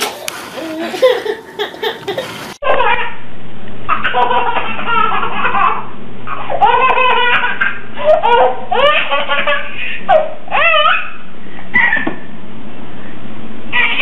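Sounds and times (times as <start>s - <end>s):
baby laughing: 0.0s - 3.2s, 3.9s - 12.1s, 13.8s - 14.0s.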